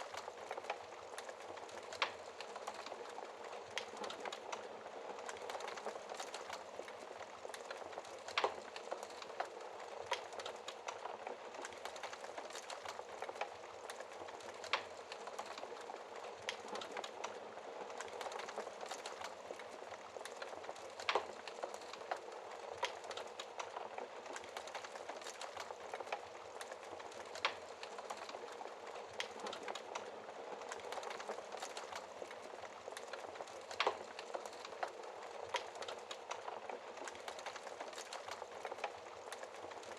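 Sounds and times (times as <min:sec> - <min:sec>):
logs burning in fireplace: 0:00.0 - 0:39.9.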